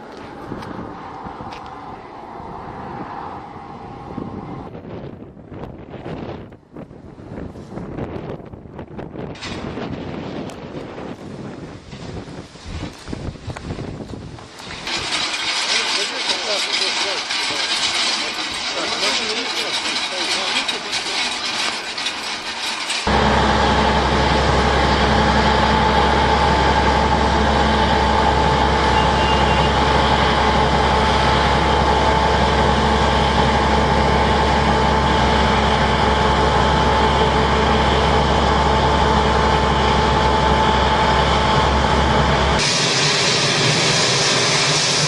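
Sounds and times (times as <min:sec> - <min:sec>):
engine whine: 0:00.0 - 0:45.0
heavy engine rumbling: 0:00.0 - 0:45.0.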